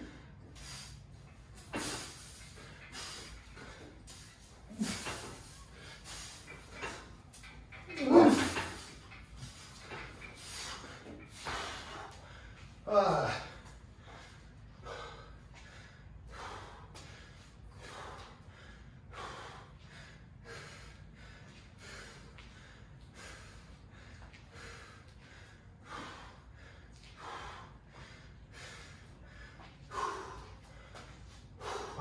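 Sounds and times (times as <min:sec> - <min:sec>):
man breathing hard: 0:00.0 - 0:32.0.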